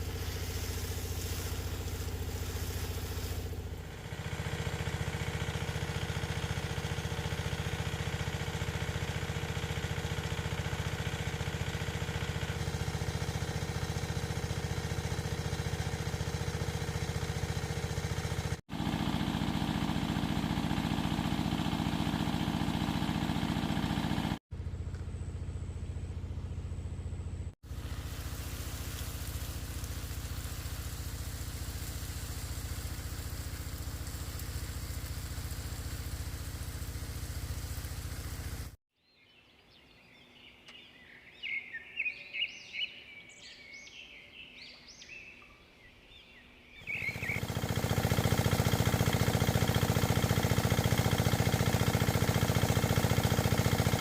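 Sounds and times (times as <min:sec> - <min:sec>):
small engine running: 0:00.0 - 0:38.8, 0:46.8 - 0:54.0.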